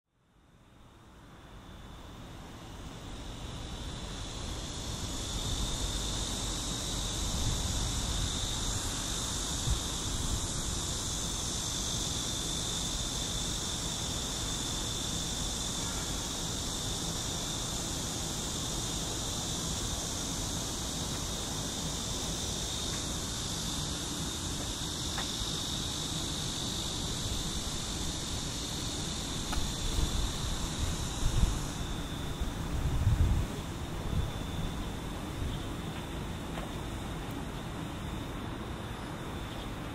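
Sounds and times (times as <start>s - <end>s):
insects buzzing: 0.2s - 39.9s.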